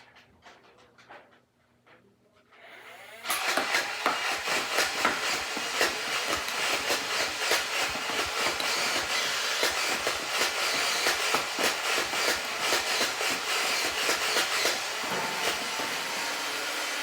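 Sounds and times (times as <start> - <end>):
dart blaster motor whirring: 3.0 - 17.0.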